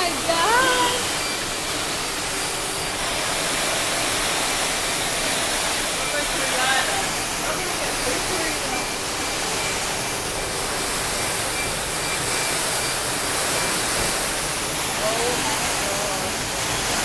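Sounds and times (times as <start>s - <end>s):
water pouring through ceiling: 0.0s - 17.0s.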